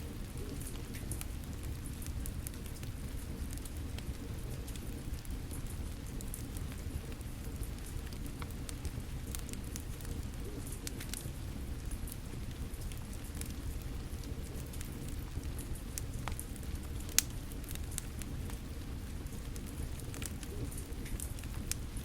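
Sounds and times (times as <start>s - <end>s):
fire crackling and popping: 0.0s - 22.0s
steady rain falling: 0.0s - 22.0s.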